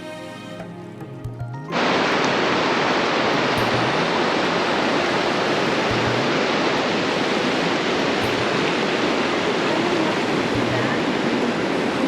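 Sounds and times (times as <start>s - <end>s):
fast-flowing mountain water: 1.7s - 12.0s.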